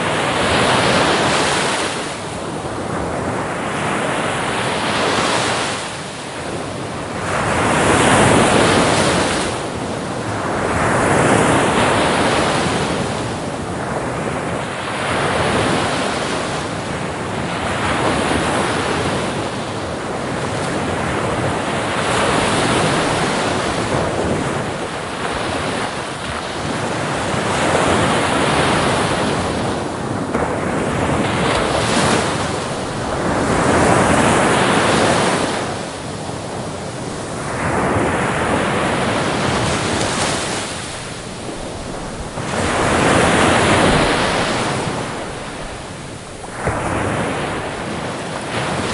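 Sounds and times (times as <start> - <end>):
sea waves breaking: 0.0 - 48.9.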